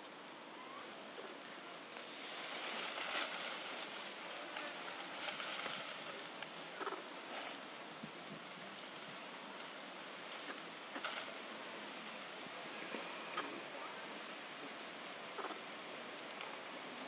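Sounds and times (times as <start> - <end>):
rushing forest ambience: 0.0 - 17.0.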